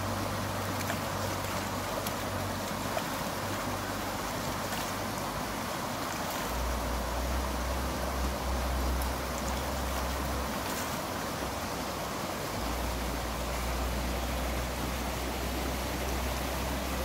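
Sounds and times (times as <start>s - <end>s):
stream rushing over riffle: 0.0s - 17.0s.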